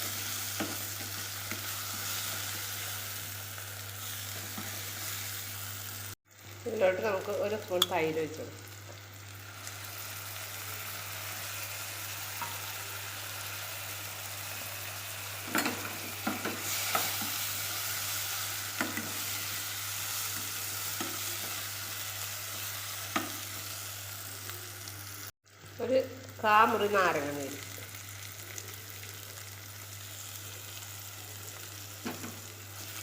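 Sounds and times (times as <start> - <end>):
masala sizzling in a pan: 0.0 - 33.0.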